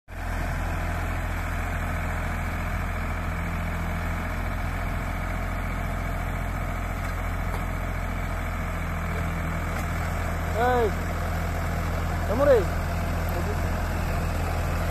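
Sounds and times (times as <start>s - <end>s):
tractor diesel engine droning: 0.1s - 14.9s.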